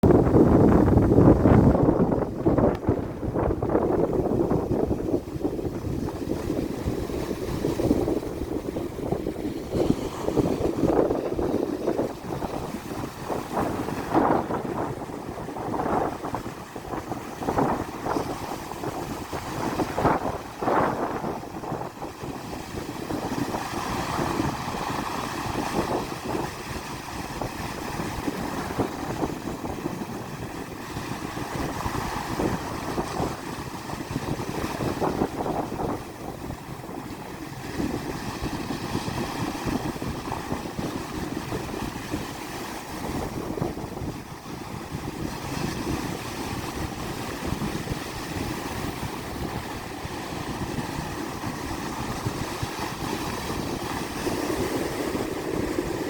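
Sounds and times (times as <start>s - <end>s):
waves washing onto shore: 0.0s - 56.0s
wind buffeting microphone: 0.0s - 56.0s.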